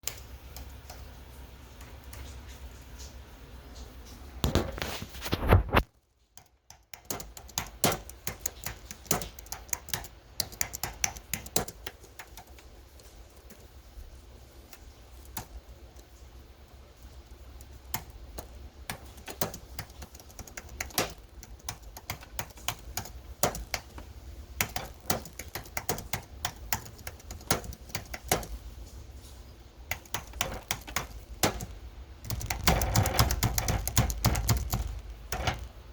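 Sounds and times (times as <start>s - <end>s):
keyboard typing: 4.4s - 14.0s, 14.6s - 28.7s, 29.9s - 35.9s.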